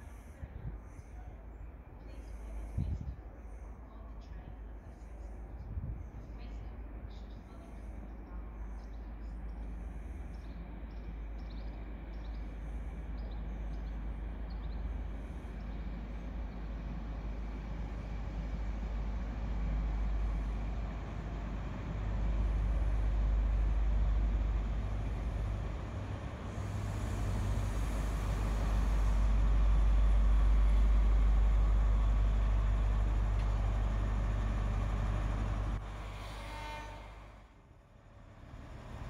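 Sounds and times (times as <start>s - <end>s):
train diesel engine rumble: 0.0s - 39.0s.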